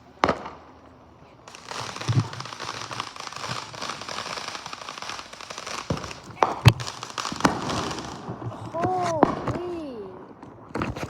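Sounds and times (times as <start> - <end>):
firework crackling: 0.0 - 11.0.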